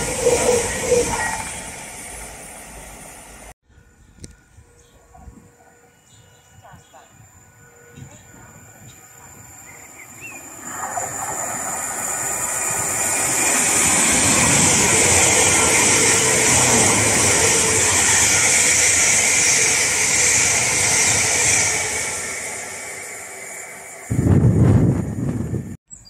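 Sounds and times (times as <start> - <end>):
train passing at speed: 0.0 - 25.8.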